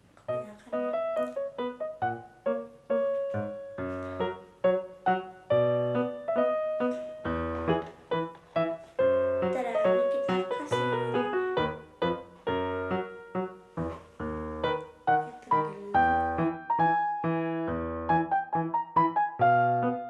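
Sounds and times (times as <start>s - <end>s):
light piano melody: 0.0s - 20.0s.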